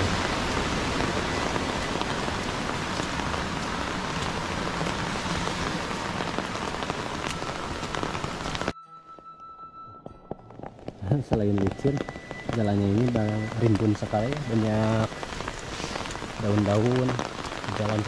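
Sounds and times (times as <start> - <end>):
heavy rain on foliage: 0.0 - 8.8, 10.6 - 18.0.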